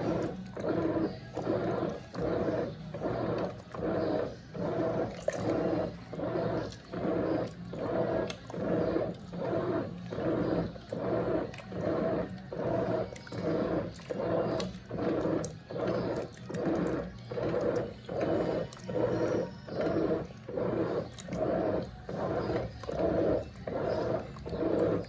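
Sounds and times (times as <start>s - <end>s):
washing machine swishing water: 0.0s - 25.0s.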